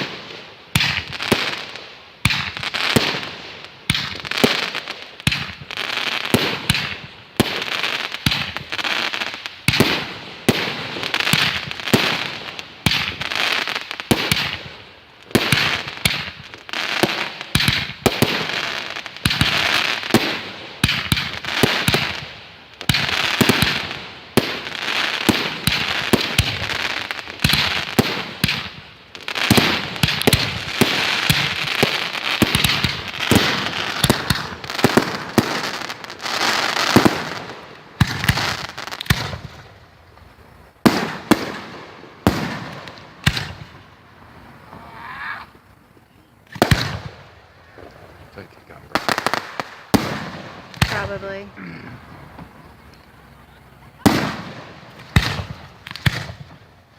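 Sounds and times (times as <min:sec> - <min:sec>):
fireworks bangs and pops: 0:00.0 - 0:56.9
fireworks crackling: 0:00.0 - 0:56.9.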